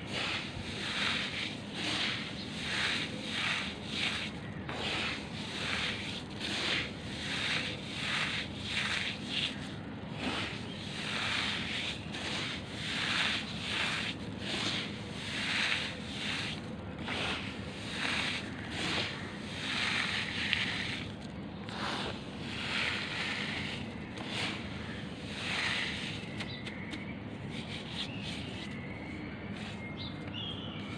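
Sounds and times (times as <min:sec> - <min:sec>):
hand crunching damp charcoal granules: 0:00.0 - 0:30.9.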